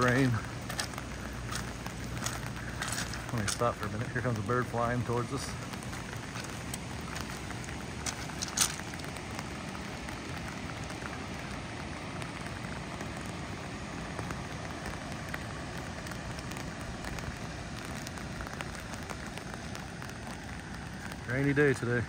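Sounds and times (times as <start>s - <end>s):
rain pattering on umbrella: 0.0s - 22.0s.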